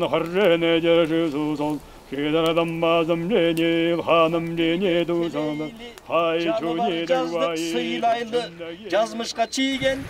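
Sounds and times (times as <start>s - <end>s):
man chanting a prayer: 0.0s - 10.0s.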